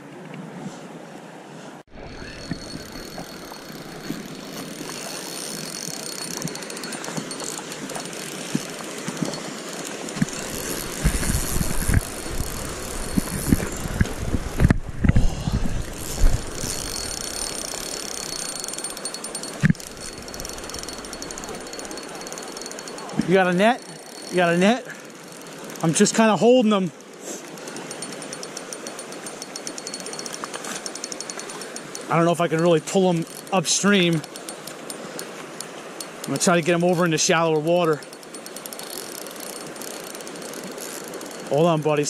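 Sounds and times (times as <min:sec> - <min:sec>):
stream water rushing: 0:00.0 - 0:42.0
fishing reel ticking: 0:02.0 - 0:14.7, 0:15.8 - 0:42.0.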